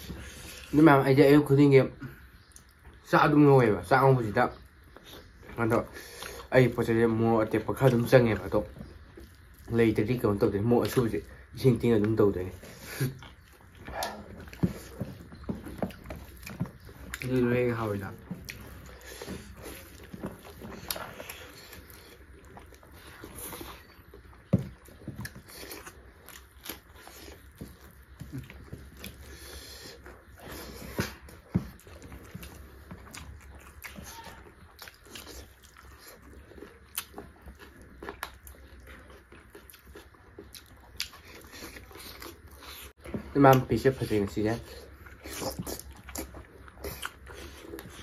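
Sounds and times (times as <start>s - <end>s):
chewing and wet mouth sounds: 0.0s - 48.0s.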